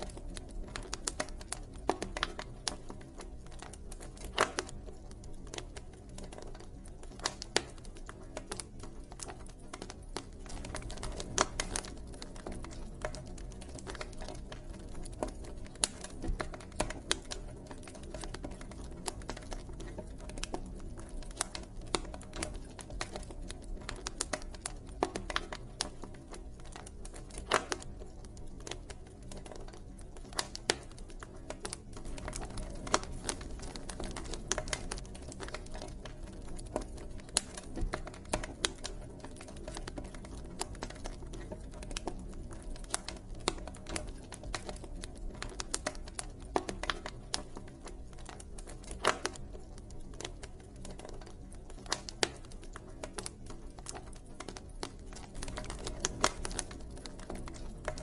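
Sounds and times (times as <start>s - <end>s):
campfire wood crackling and popping: 0.0s - 58.0s
low rumble of flames: 0.0s - 58.0s.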